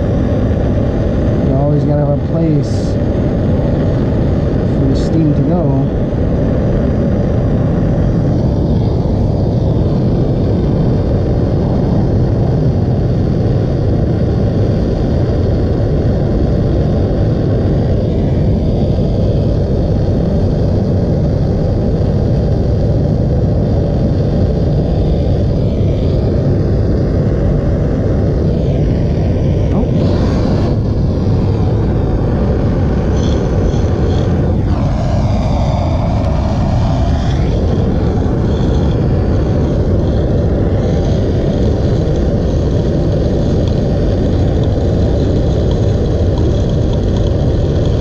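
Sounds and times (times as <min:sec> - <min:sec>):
soldering torch flame roaring: 0:00.0 - 0:48.0.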